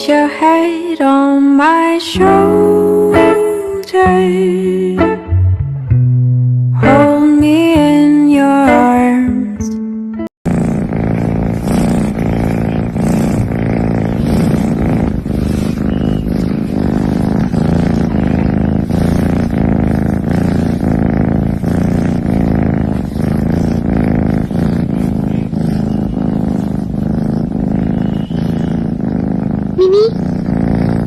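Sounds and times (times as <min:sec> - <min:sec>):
cat purring loudly: 0:00.0 - 0:05.2, 0:06.8 - 0:09.5, 0:10.4 - 0:31.0.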